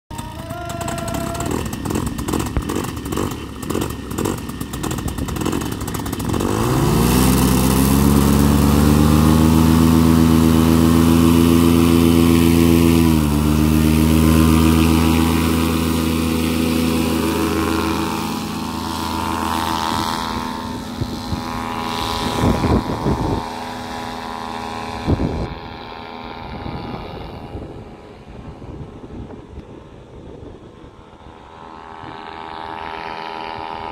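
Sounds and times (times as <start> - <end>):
paramotor engine and propeller drone: 0.1 - 33.9.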